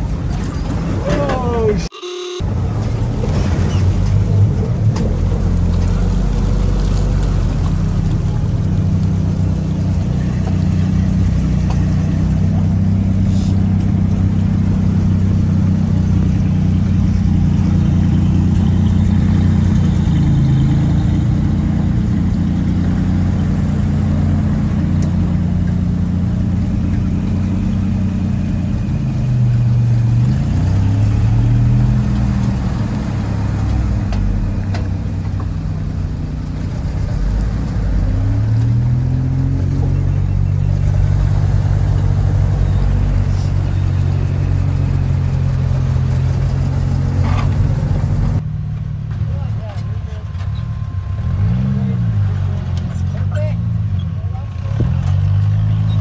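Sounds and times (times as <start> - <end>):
jeep engine running: 0.0 - 56.0.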